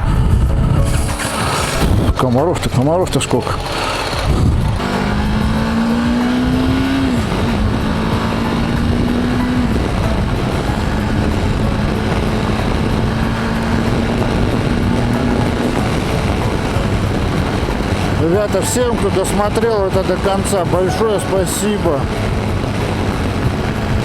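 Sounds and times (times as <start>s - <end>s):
motorcycle engine running: 0.0s - 24.0s
wind rush: 0.0s - 24.0s.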